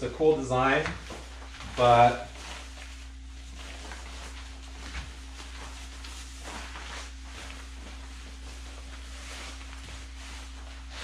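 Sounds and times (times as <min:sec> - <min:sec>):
coat fabric rustling: 0:00.0 - 0:11.0
steady low hum: 0:00.0 - 0:11.0.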